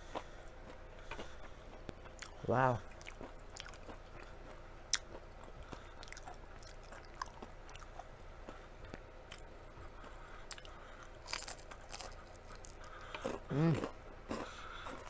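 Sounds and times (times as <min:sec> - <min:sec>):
chewing crispy fried chicken: 0:00.0 - 0:15.0.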